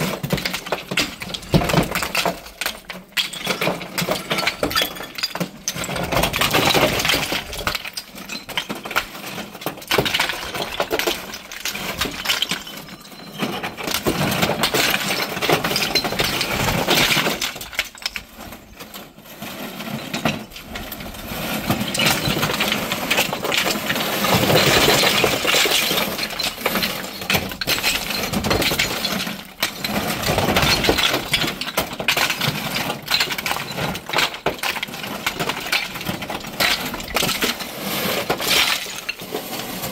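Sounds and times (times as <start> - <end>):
stone pieces clattering onto heap: 0.0 - 18.8, 19.8 - 39.9.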